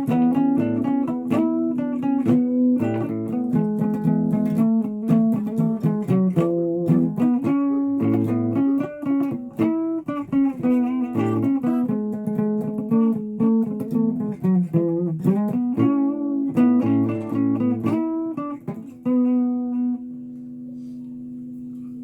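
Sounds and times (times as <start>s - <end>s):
solo guitar playing: 0.0s - 22.0s.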